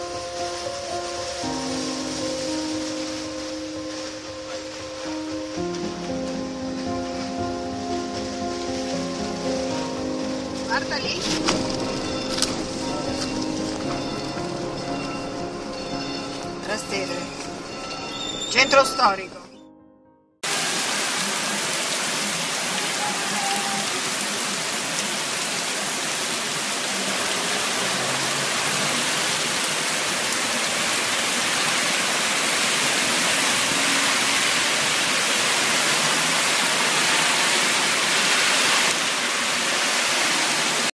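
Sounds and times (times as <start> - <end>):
heavy rain on pavement: 0.0 - 19.0, 20.4 - 41.0.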